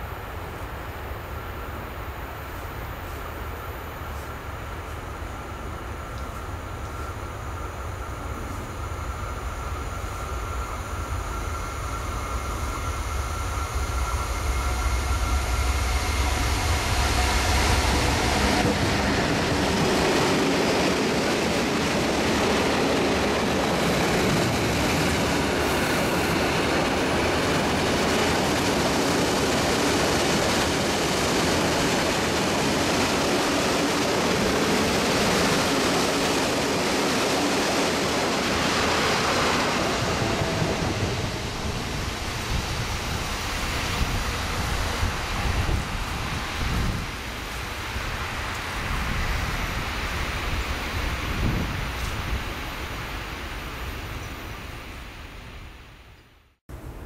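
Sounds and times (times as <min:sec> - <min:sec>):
diesel locomotive rumbling: 0:03.4 - 0:53.1.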